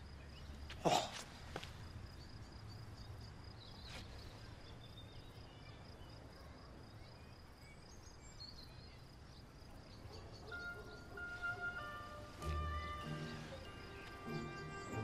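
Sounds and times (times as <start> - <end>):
faint bird chirps: 2.1 - 15.0.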